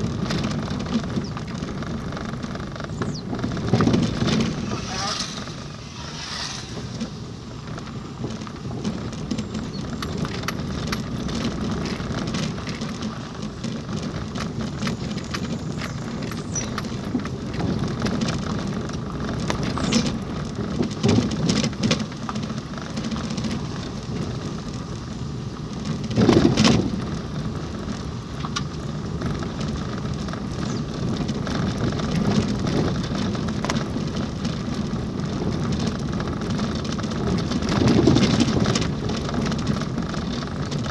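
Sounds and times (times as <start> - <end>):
grit clicks and rattles: 0.0 - 40.9
tyre and road rumble: 0.0 - 40.9.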